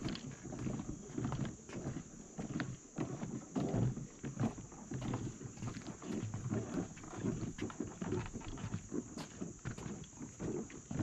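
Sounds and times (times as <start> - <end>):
footsteps on swing bridge: 0.0 - 11.0.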